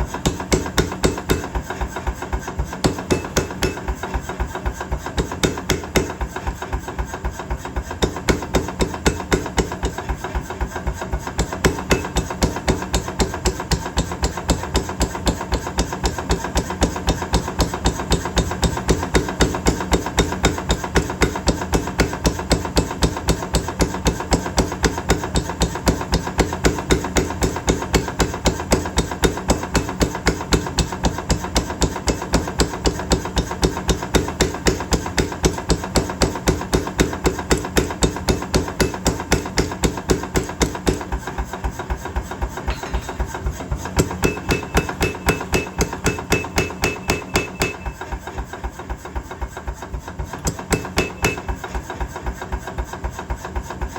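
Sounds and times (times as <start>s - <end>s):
power hammer striking hot steel: 0.2s - 6.8s, 7.9s - 10.3s, 11.2s - 48.5s, 50.4s - 52.5s.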